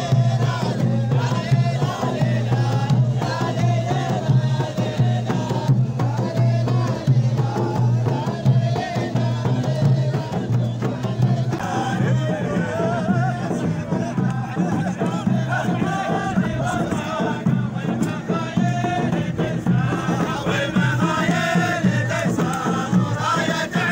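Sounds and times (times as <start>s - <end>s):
large drums beating: 0.0s - 23.9s
men chanting together: 0.0s - 23.9s.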